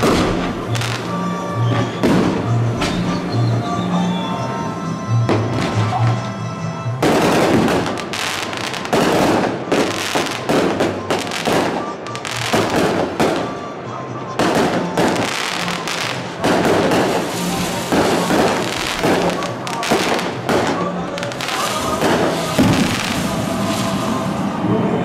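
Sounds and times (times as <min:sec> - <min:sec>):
fireworks bursting and crackling: 0:00.0 - 0:03.8, 0:04.5 - 0:06.4, 0:07.0 - 0:13.8, 0:14.4 - 0:24.8
music playing: 0:00.0 - 0:25.0.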